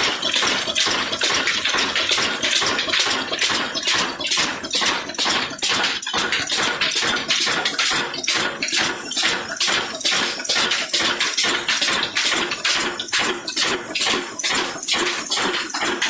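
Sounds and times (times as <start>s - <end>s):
stationary diesel engine running: 0.0s - 16.0s.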